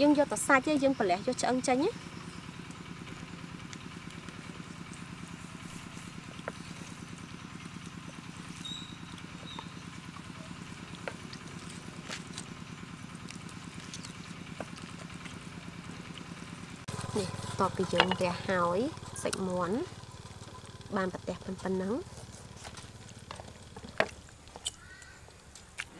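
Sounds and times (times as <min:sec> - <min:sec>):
low engine hum: 0:00.0 - 0:25.9.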